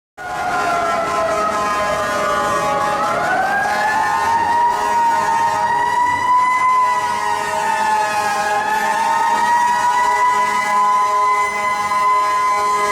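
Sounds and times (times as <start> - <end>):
mechanical siren wailing: 0.2 - 12.9
steady horn-like tones: 0.3 - 12.9.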